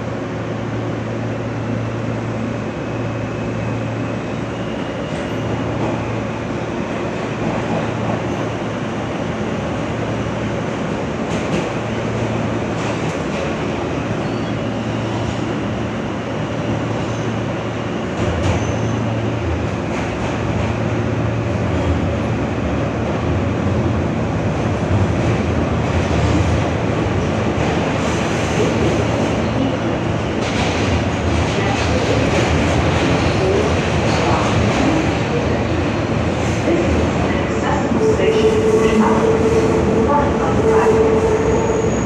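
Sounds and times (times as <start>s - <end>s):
subway car rumbling: 0.0s - 42.0s.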